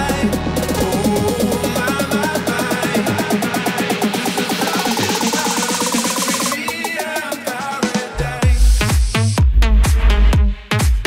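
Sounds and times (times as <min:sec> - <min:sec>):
heavy kick drum and bass: 0:00.0 - 0:11.0.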